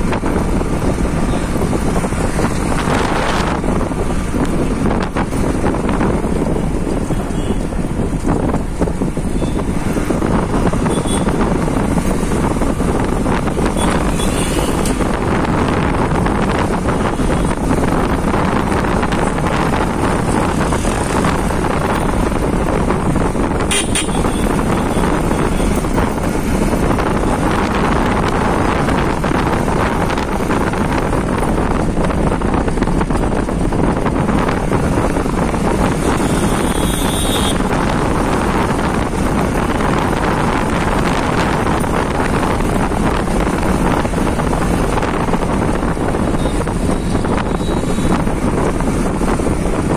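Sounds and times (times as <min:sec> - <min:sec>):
motorcycle engine: 0:00.0 - 0:48.9
road noise: 0:00.0 - 0:49.9
wind rushing on microphone: 0:00.0 - 0:49.9.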